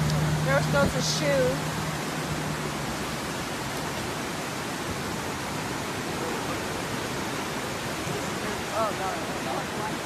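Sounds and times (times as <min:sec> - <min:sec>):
rushing floodwater: 0:00.0 - 0:10.0.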